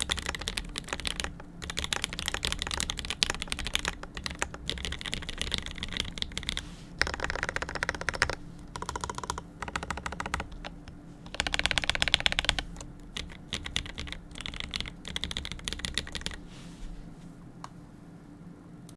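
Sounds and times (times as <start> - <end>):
mechanical keyboard typing: 0.0 - 16.4.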